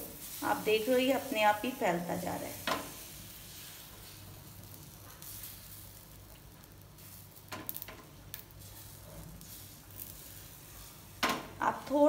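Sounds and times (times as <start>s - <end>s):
batter sizzling on hot pan: 0.0s - 12.0s.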